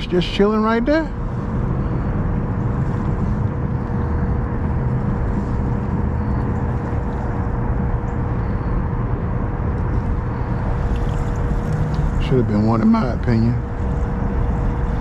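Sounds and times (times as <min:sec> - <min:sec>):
electric motor rumble and whine: 0:00.0 - 0:15.0.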